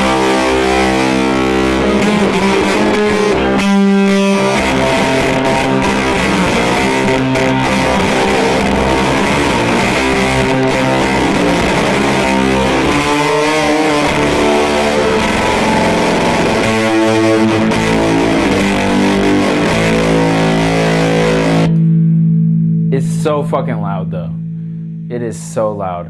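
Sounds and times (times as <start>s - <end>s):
fuzz distorted electric guitar chords: 0.0s - 26.0s.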